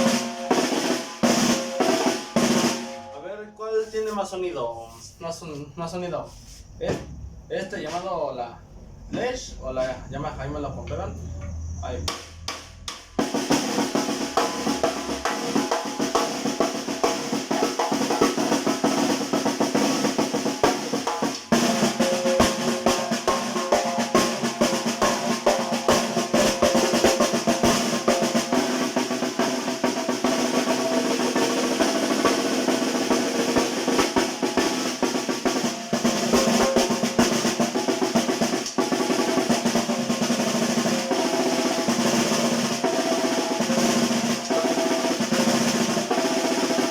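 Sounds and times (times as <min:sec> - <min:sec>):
snare drum rolls: 0:00.0 - 0:03.1, 0:12.1 - 0:46.9.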